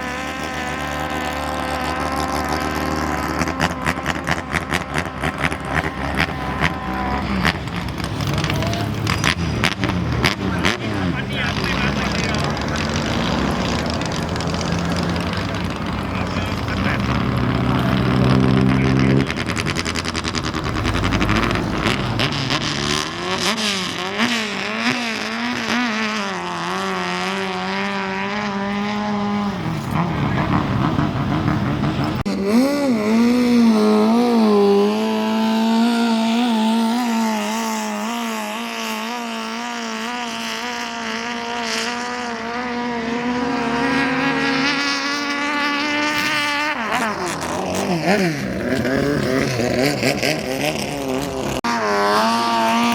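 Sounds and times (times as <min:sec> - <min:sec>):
speedboat engines running hard: 0:00.0 - 0:52.9.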